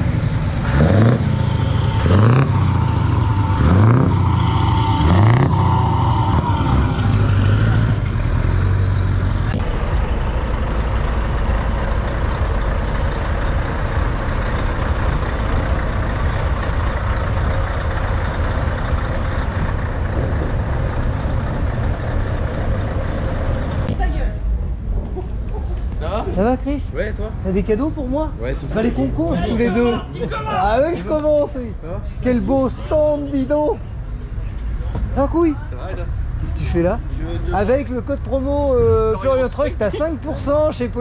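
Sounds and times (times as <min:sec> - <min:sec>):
diesel trucks driving past: 0:00.0 - 0:41.0.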